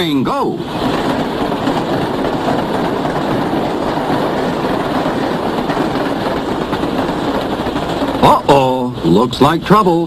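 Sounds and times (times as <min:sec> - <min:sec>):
toy train rumbling on track: 0:00.0 - 0:10.0.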